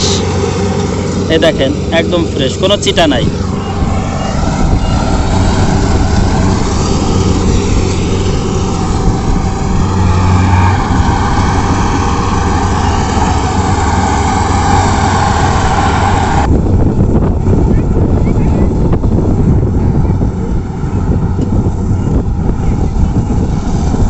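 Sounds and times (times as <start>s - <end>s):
combine harvester machinery drone: 0.0s - 24.0s.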